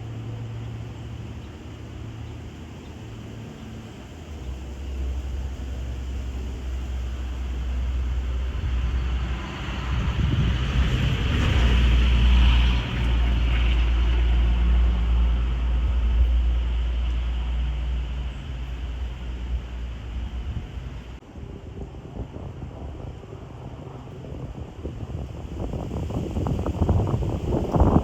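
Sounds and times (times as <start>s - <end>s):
aircraft passing overhead: 0.0s - 28.0s
wind rumble on microphone: 0.0s - 28.0s.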